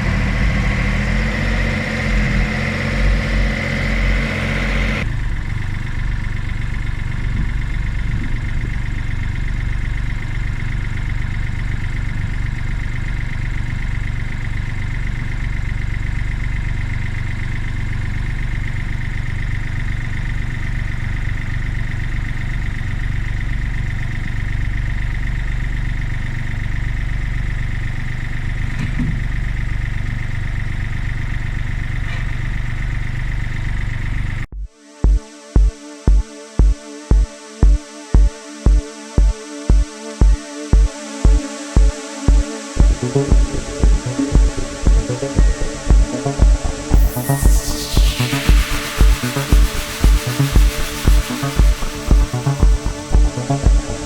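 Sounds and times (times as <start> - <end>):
diesel engine running: 0.0 - 34.5, 40.2 - 54.0.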